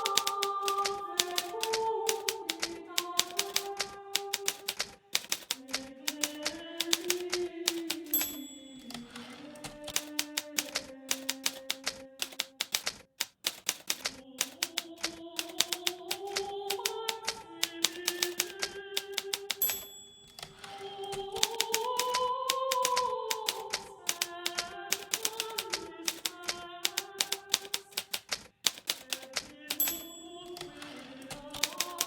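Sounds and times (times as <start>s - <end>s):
typewriter bell ding: 0.0s - 32.0s
typewriter keys striking: 0.0s - 32.0s.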